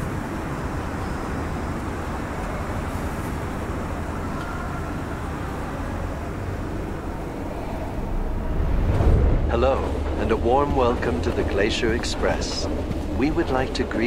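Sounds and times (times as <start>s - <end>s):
train coaches rolling slowly: 0.0s - 14.0s.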